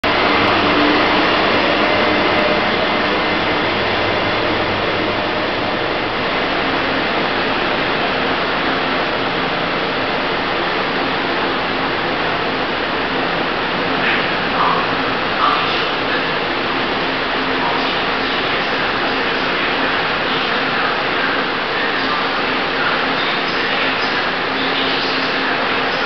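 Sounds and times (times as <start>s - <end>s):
diesel locomotive engine hum: 0.0s - 26.0s
train carriages rolling on rails: 0.0s - 26.0s.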